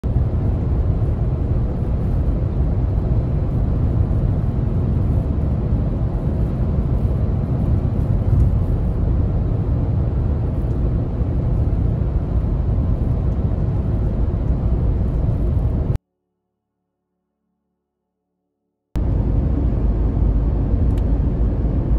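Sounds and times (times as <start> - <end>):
vehicle rumble: 0.0 - 16.0, 19.0 - 21.9.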